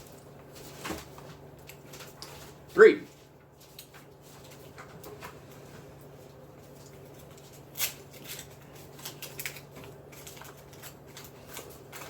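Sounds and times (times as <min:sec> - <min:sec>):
wrapper rustles and clicks: 0:00.0 - 0:12.0.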